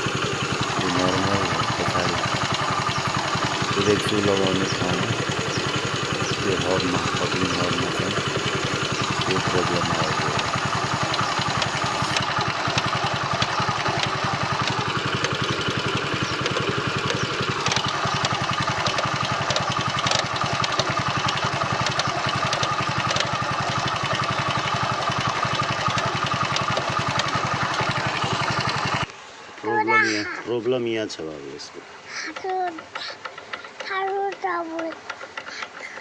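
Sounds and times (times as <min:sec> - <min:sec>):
motorcycle engine idling: 0:00.0 - 0:29.1, 0:32.3 - 0:36.0.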